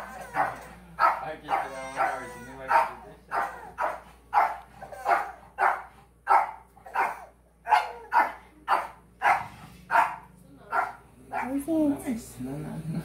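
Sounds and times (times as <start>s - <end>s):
small dog barking: 0.3s - 11.6s.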